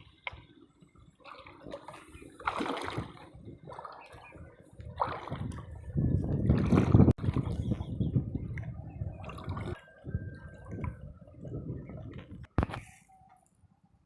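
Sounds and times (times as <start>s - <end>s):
water splashing and sloshing: 0.0s - 13.4s.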